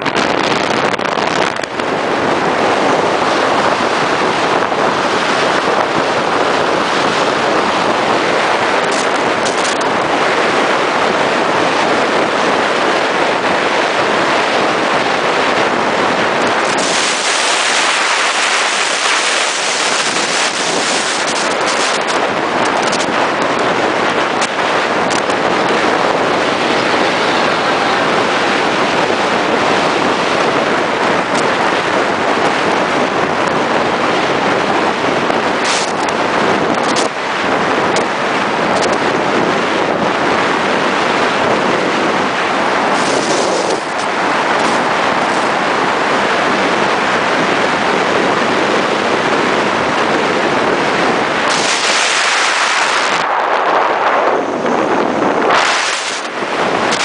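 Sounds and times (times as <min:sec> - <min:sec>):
truck road noise: 0:00.0 - 0:57.0
wind rushing: 0:00.0 - 0:57.0.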